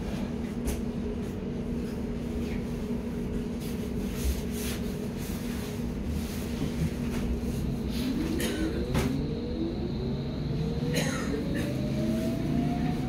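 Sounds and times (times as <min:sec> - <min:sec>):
two-tone electrical hum: 0:00.0 - 0:13.0
ventilation noise: 0:00.0 - 0:13.0.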